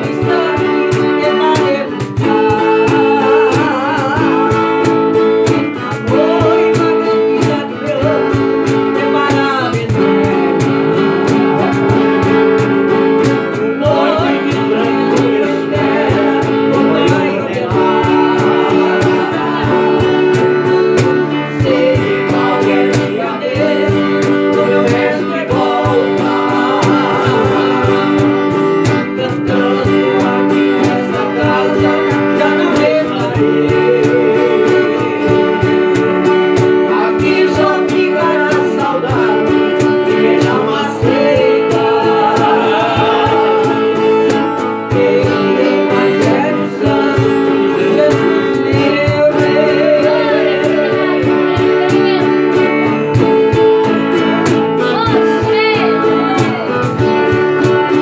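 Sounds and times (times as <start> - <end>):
person singing: 0.0 - 58.0
plucked guitar strings: 0.0 - 58.0.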